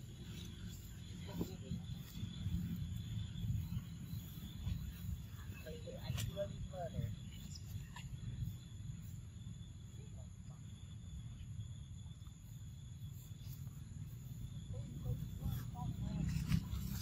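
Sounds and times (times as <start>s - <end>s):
faint high insect drone: 0.0s - 17.0s
low steady rumble: 0.0s - 17.0s.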